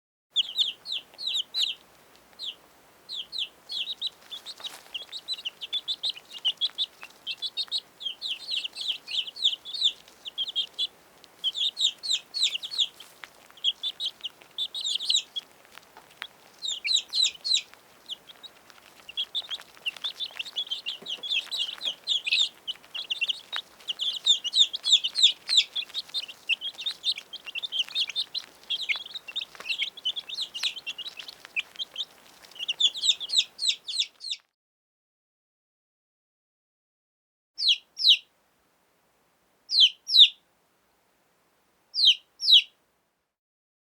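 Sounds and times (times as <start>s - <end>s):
chicks peeping: 0.4s - 34.4s, 37.6s - 38.3s, 39.7s - 40.4s, 42.0s - 42.8s.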